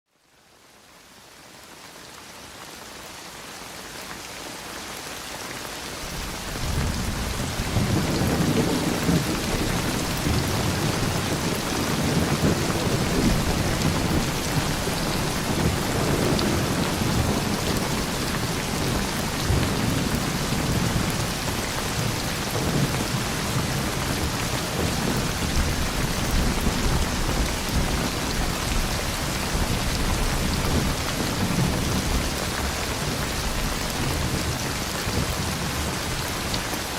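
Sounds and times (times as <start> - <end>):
heavy rain: 0.2 - 36.9
low rumbling thunder: 6.1 - 36.0.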